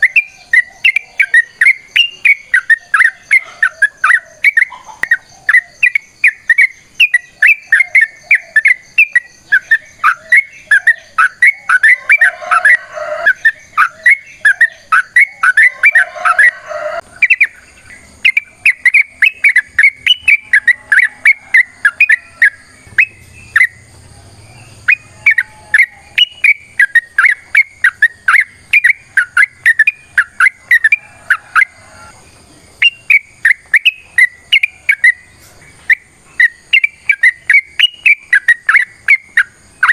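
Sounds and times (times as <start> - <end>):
bird singing rapid whistled notes: 0.0 - 32.1, 32.8 - 39.9
lower bird call: 0.0 - 39.9.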